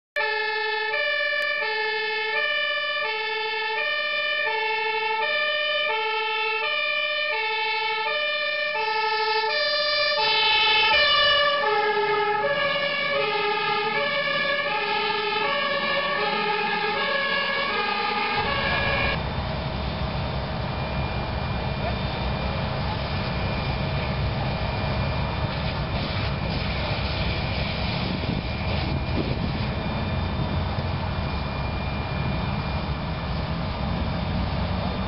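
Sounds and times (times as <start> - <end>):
fire engine two-tone siren: 0.2 - 35.0.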